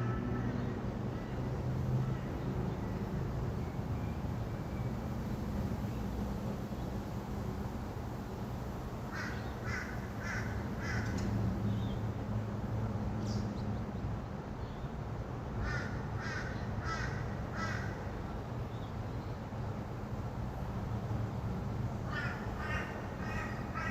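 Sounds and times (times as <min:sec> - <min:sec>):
distant traffic hum: 0:00.0 - 0:23.9.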